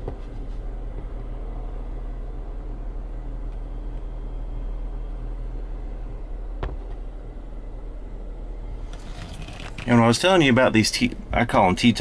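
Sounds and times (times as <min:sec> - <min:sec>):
car engine idling hum: 0:00.0 - 0:12.0.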